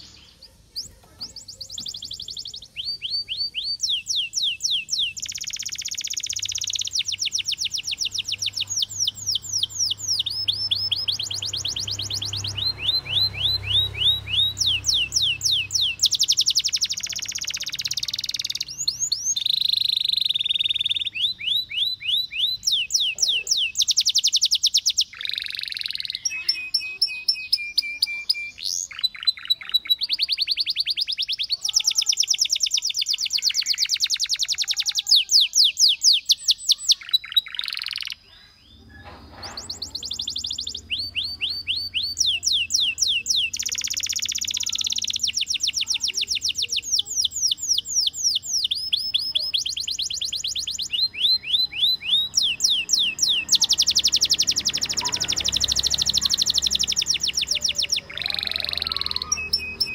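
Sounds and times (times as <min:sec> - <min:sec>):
canary singing rapid trills: 0:00.0 - 0:59.9.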